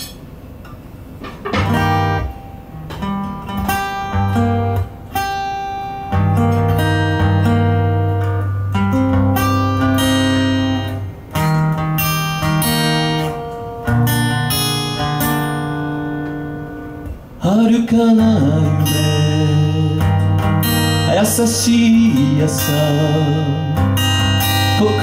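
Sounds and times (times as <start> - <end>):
acoustic guitar strumming chords: 1.1 - 25.0.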